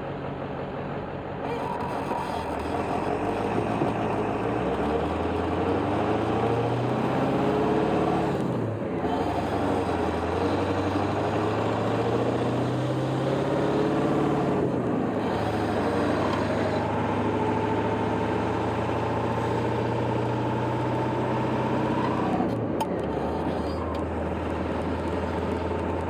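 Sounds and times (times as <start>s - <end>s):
diesel pickup engine accelerating: 0.0s - 26.0s.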